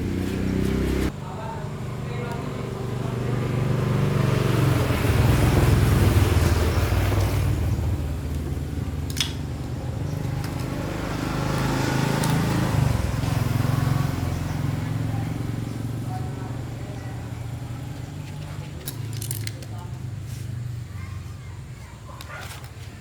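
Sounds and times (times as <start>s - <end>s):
small petrol engine running: 0.0s - 21.4s.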